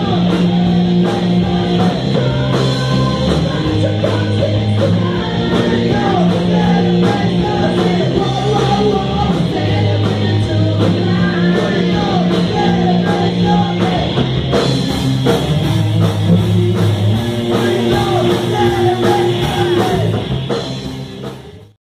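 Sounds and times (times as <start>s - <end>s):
person singing: 0.0s - 14.3s, 16.3s - 20.3s
distorted electric guitar: 0.0s - 21.8s
drum kit: 0.0s - 21.8s.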